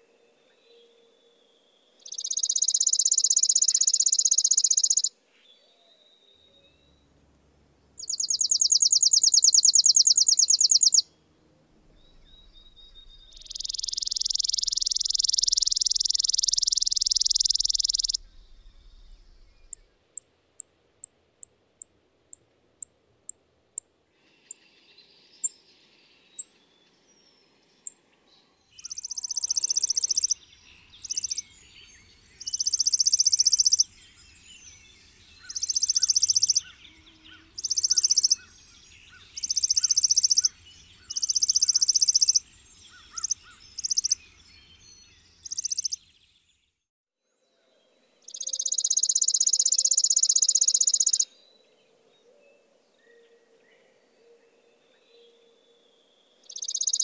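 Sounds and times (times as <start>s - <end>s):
sparrow singing trills: 0.0s - 7.1s, 7.9s - 11.2s, 11.8s - 21.5s, 24.2s - 46.5s, 48.2s - 57.0s.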